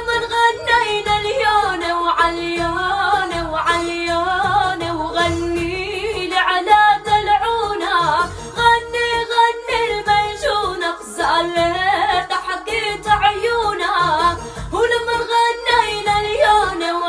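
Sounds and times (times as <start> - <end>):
low rhythmic accompaniment: 0.0 - 17.0
woman singing ornamented melody: 0.0 - 17.0.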